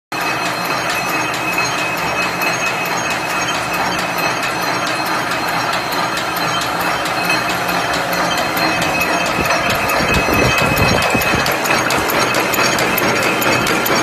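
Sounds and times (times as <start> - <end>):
machine clatter with clicks: 0.2 - 14.0
steady high whine: 0.2 - 14.0.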